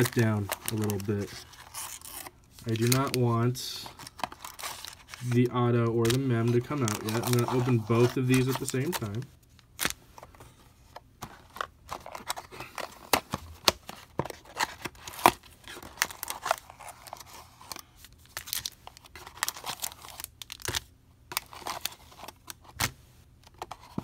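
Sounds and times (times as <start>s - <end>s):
papery crinkling: 0.0s - 10.6s, 11.2s - 22.9s.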